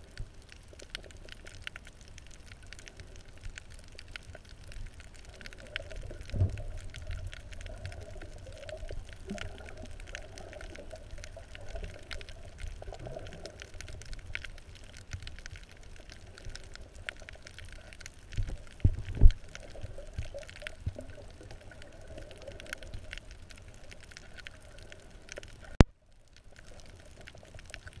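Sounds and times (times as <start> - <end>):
underwater crackle of tiny clicks: 0.0 - 28.0.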